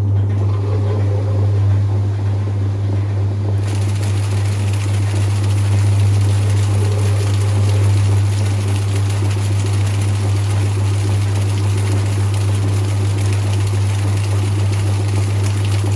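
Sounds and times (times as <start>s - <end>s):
washing machine running: 0.0s - 15.9s.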